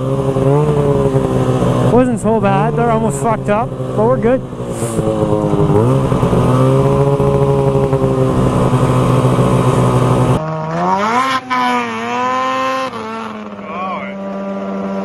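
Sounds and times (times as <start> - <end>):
snowmobile engine at high revs: 0.0 - 15.0.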